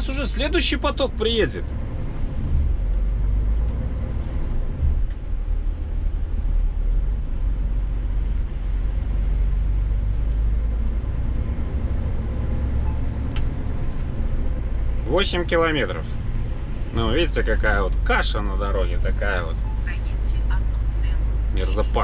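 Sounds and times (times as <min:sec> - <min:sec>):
road noise on slush: 0:00.0 - 0:22.0
truck engine drone: 0:00.0 - 0:22.0.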